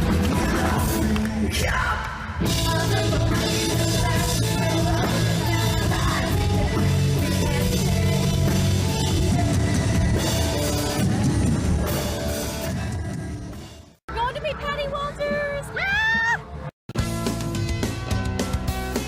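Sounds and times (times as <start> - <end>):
loud rock music with drums: 0.0 - 14.0, 17.0 - 19.0.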